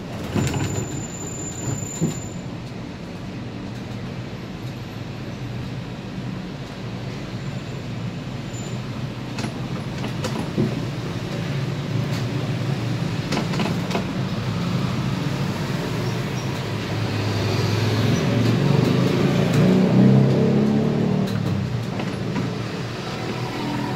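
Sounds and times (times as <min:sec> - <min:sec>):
bus engine drone: 0:00.0 - 0:23.9.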